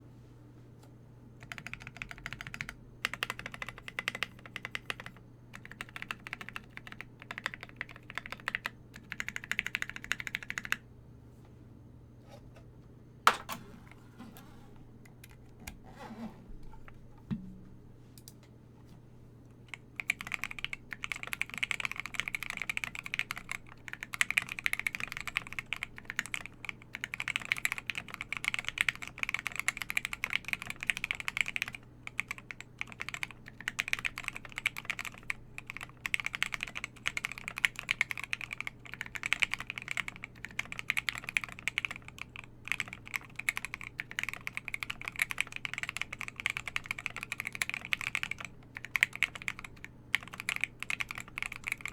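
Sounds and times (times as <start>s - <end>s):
mechanical keyboard typing: 1.4s - 10.8s, 19.7s - 51.9s.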